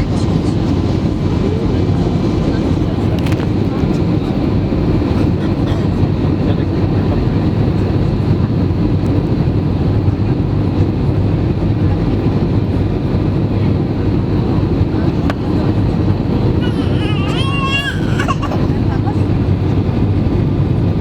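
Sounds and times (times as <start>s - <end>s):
airplane rumble with whining: 0.0s - 21.0s.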